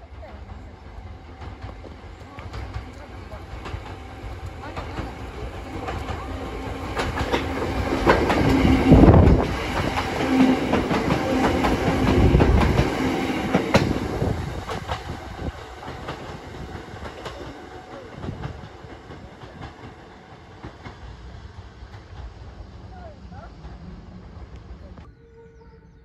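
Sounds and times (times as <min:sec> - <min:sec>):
train wheels clacking: 0:00.0 - 0:24.8
low steady train hum: 0:00.0 - 0:26.0.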